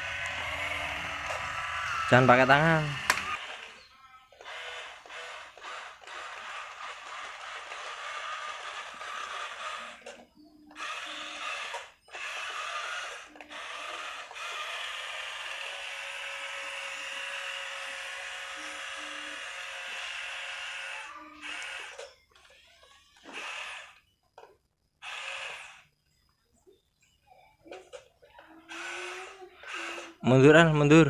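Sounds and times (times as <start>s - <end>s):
toy motors and gears whirring: 0.0s - 31.0s.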